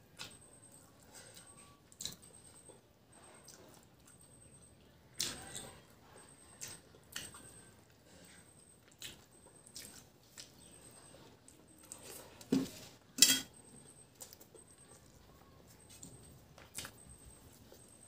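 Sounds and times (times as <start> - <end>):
chewing: 0.1 - 12.5, 13.7 - 18.0.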